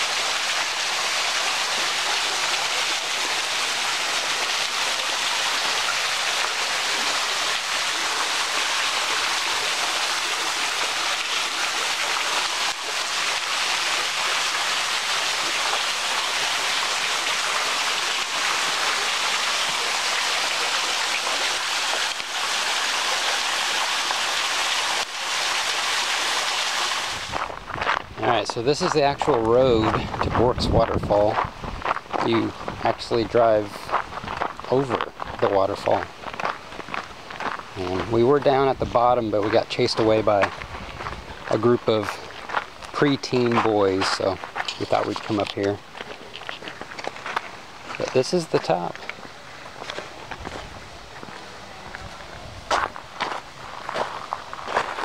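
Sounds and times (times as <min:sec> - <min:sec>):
waterfall hiss: 0:00.0 - 0:27.6, 0:34.6 - 0:55.0.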